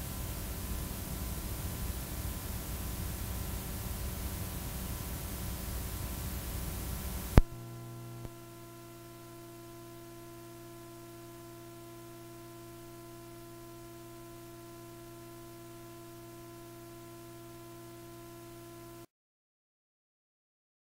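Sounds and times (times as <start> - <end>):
steady background hiss: 0.0 - 17.4
electrical hum: 0.0 - 19.1.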